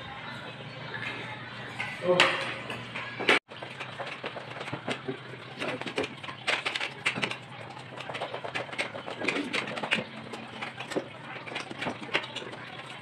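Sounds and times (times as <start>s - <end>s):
spoons clinking on plates and pots: 1.0s - 13.0s.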